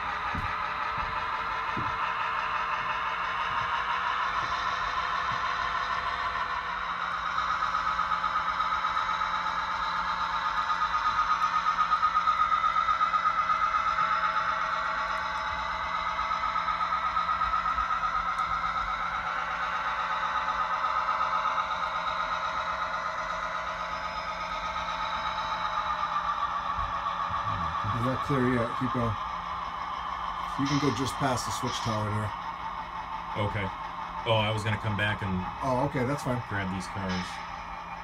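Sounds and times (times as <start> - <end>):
model train whining: 0.0 - 38.0.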